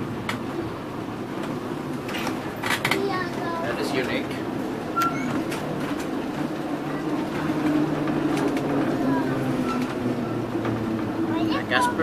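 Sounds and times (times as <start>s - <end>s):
tram hum and rumble: 0.0s - 12.0s.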